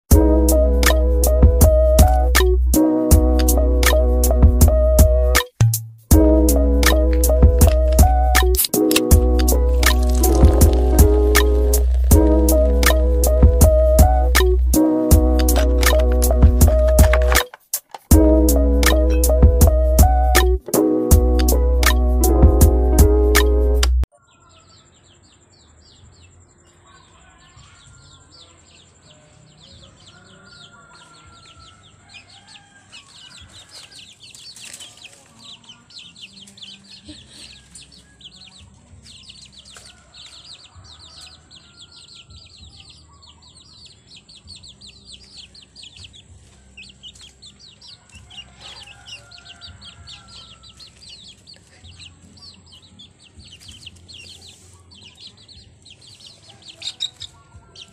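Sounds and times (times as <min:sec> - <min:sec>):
chicks peeping: 0:06.1 - 0:57.9.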